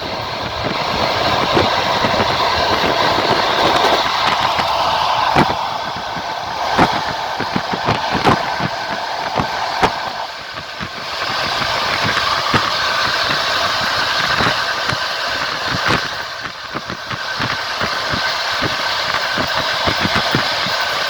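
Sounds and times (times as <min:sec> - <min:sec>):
train rumbling on track: 0:00.0 - 0:21.0
wheels knocking over rail joints: 0:00.0 - 0:21.0.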